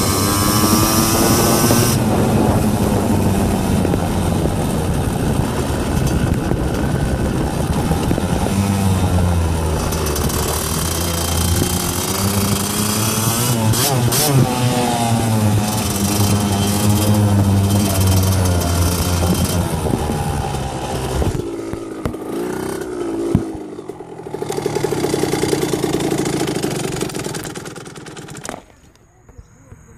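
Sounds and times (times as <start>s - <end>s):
small engine running loudly: 0.0s - 28.7s.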